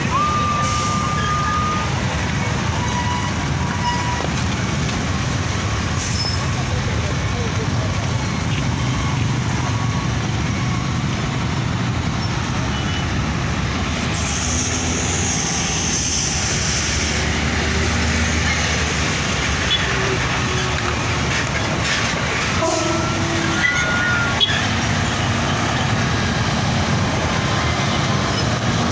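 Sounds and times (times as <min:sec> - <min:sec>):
heavy diesel machinery rumbling: 0:00.0 - 0:28.9
road traffic rumbling: 0:00.0 - 0:28.9.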